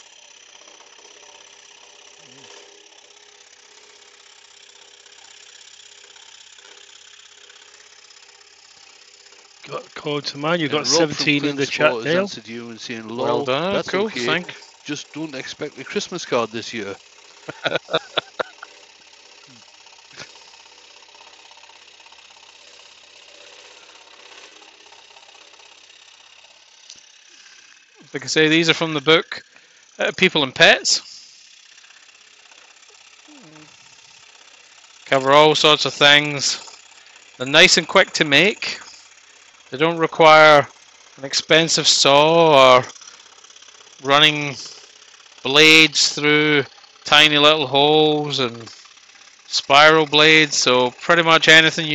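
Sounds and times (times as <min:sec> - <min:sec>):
scroll saw cutting wood: 0:00.0 - 0:51.9.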